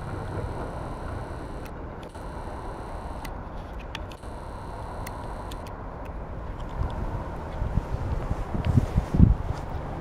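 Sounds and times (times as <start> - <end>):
truck engine and rolling on rails: 0.0 - 10.0.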